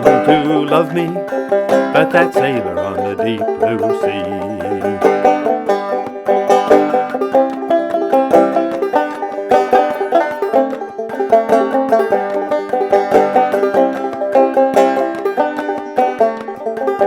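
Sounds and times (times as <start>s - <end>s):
banjo playing: 0.0s - 17.0s.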